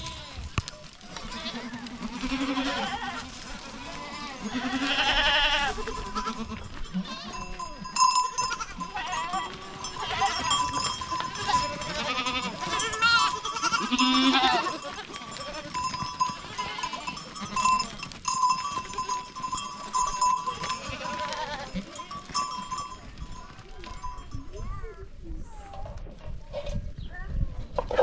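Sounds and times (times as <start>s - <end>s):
goats bleating: 0.0s - 23.4s
animal bells ringing: 0.0s - 25.8s.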